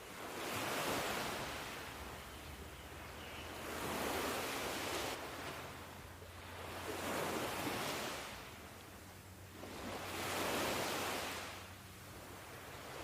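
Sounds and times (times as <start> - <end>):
ocean waves washing in: 0.0 - 2.2, 3.0 - 13.0.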